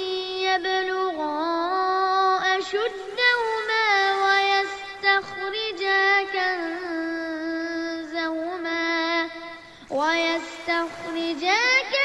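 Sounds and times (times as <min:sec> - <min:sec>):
young person reciting melodically: 0:00.0 - 0:12.0.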